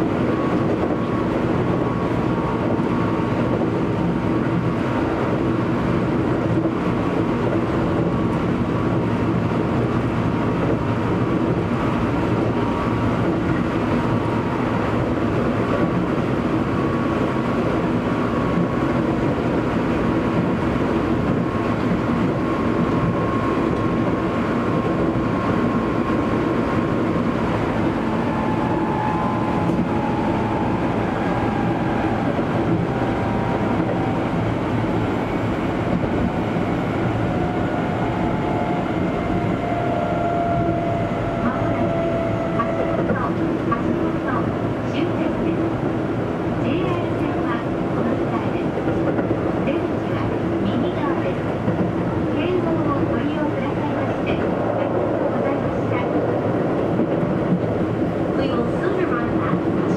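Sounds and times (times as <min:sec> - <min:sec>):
train wheels and motors rumbling: 0:00.0 - 0:59.9.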